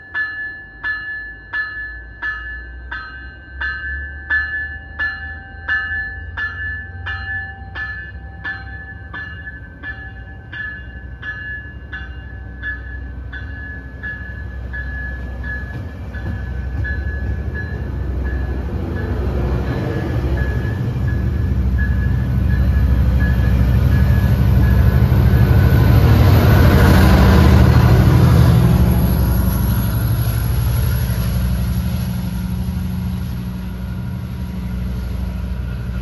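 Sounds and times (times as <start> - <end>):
low rumble of moving train: 0.0 - 36.0
train bell ringing: 0.0 - 36.0.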